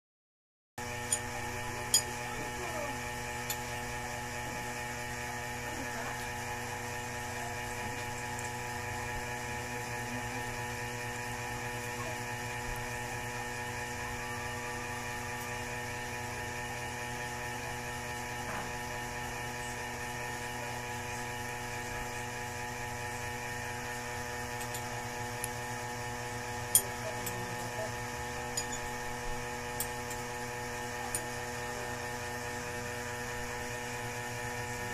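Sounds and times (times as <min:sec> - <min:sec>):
steady electrical hum: 0:00.8 - 0:34.9.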